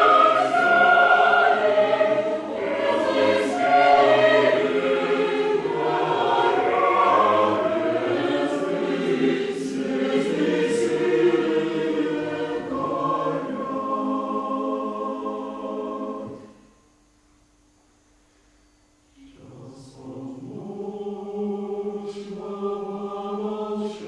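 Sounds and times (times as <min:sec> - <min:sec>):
choir singing: 0:00.0 - 0:16.5, 0:19.2 - 0:24.0.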